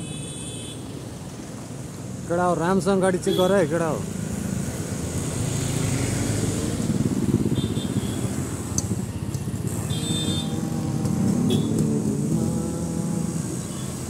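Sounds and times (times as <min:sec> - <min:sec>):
small engines of passing traffic: 0:00.0 - 0:14.0.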